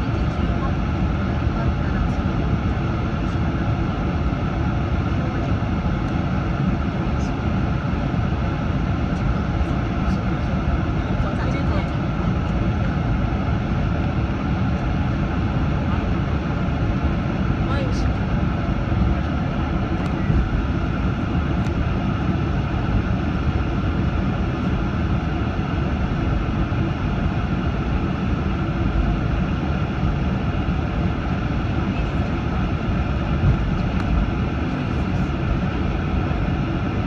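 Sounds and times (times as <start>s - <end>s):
jet engines low hum: 0.0s - 37.0s.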